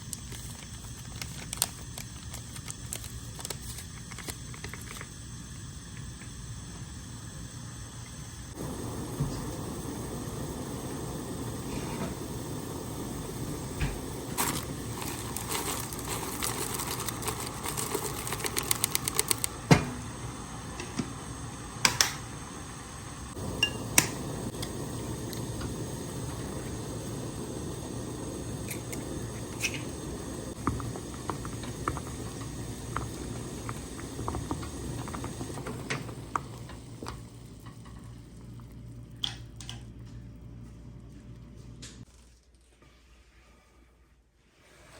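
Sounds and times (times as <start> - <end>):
steady hiss: 0.0 - 39.2.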